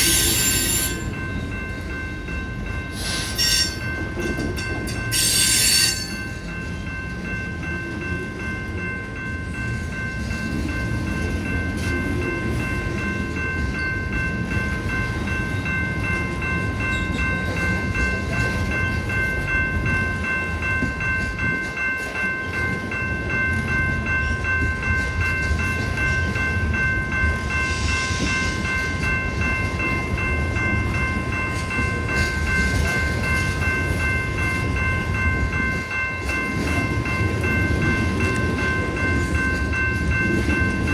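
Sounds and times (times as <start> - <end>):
crossing bell ringing: 0.0 - 40.9
train rumbling past: 0.0 - 40.9.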